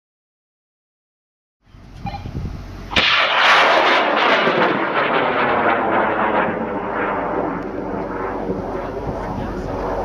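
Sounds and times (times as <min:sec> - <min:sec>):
rocket motor crackling rumble: 0:01.7 - 0:10.0.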